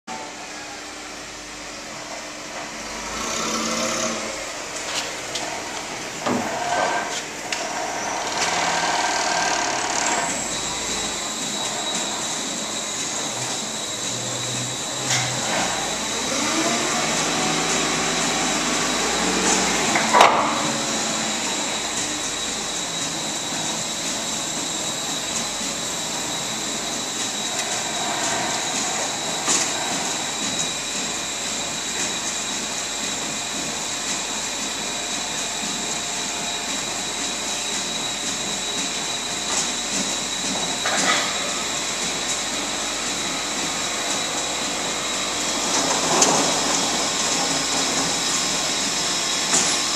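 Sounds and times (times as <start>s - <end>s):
forklift running: 0.1s - 49.9s
high steady whine: 0.1s - 49.9s
machinery noise: 1.9s - 49.9s.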